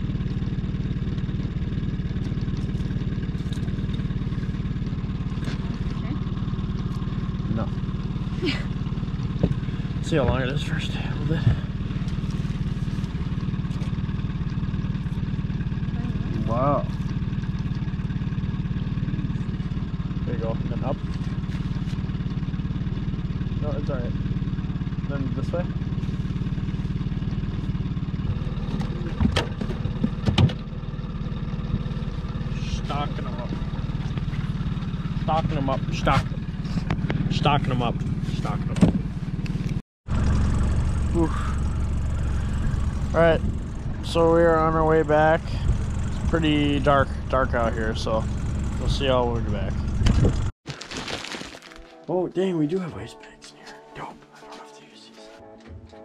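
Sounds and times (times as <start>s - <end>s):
outboard motor running: 0.0s - 53.3s.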